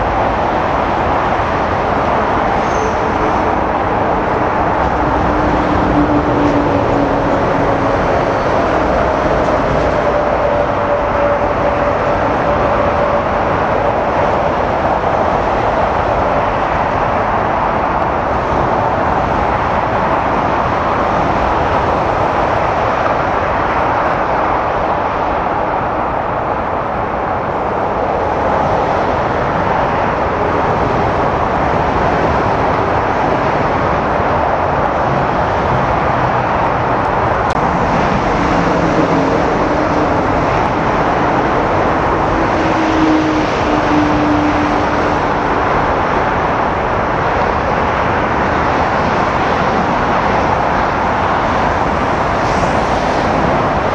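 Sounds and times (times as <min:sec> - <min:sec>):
jet engine roar: 0:00.0 - 0:24.0, 0:24.6 - 0:53.9.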